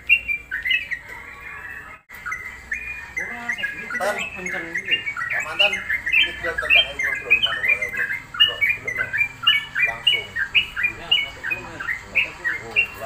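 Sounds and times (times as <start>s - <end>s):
birds singing and chattering: 0.0s - 13.0s
harsh low bird calls: 0.0s - 13.0s.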